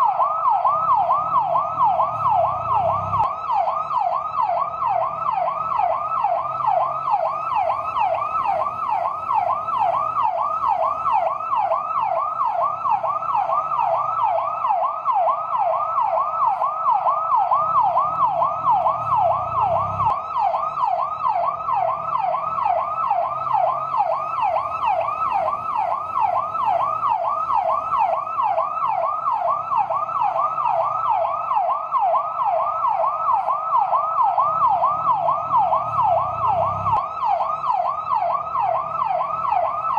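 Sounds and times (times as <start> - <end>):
fire truck siren yelp: 0.0 - 39.9.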